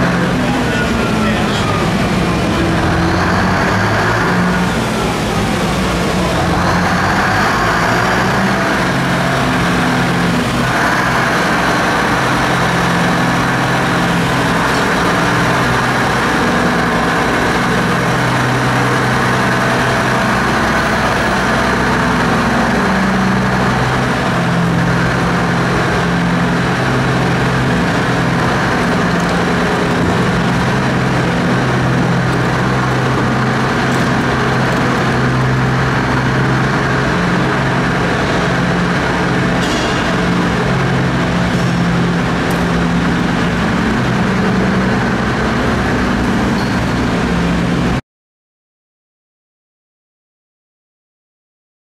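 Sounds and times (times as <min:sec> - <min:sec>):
dump truck diesel engine: 0:00.0 - 0:48.0.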